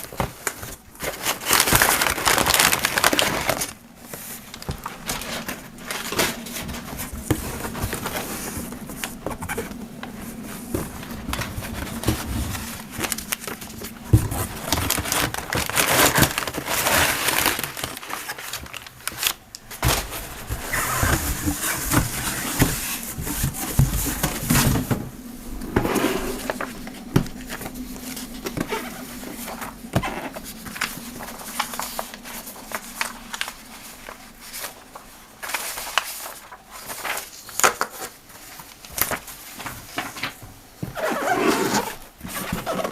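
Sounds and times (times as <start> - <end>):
plastic and cardboard rustling: 0.0 - 42.9.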